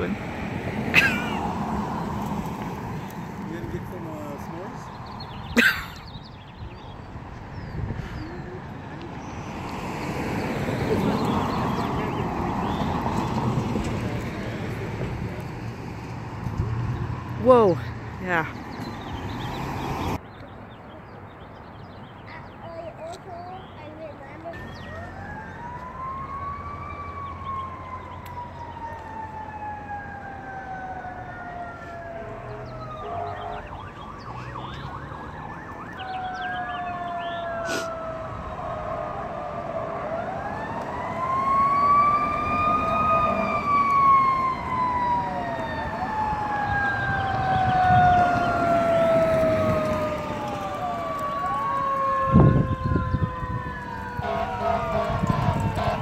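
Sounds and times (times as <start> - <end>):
emergency vehicle sirens: 0.0 - 20.2, 23.8 - 56.0.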